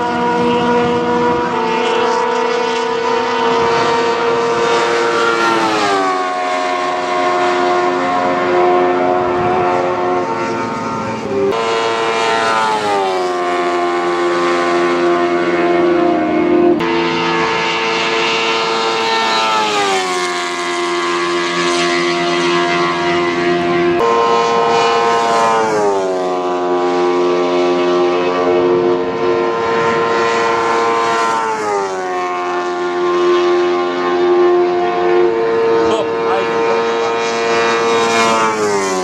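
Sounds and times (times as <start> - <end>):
race car engines at high revs: 0.0 - 39.0.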